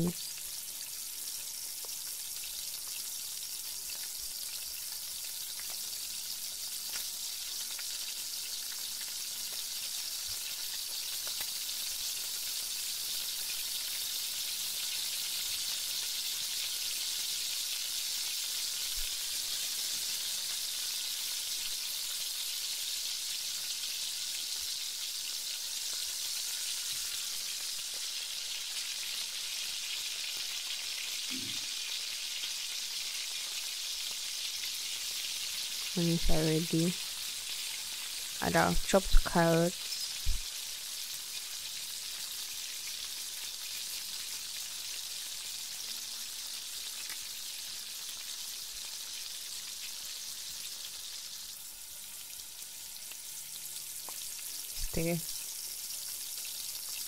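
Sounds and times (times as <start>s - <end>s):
onions sizzling in hot oil: 0.0s - 57.0s.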